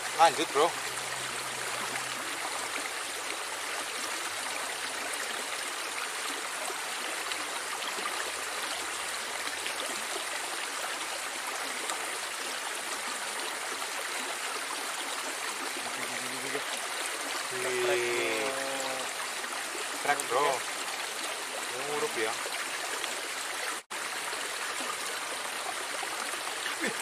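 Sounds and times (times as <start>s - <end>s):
water rushing in a ditch: 0.0s - 27.0s.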